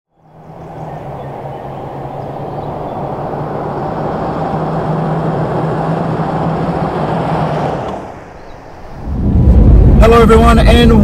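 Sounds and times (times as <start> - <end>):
vehicle driving with road noise: 0.1 - 11.0.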